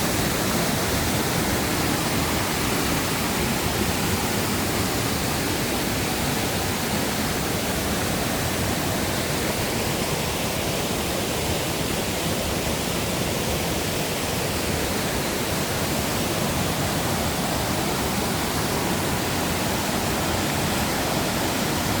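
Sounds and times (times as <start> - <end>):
stream water rushing over rocks: 0.0 - 22.0.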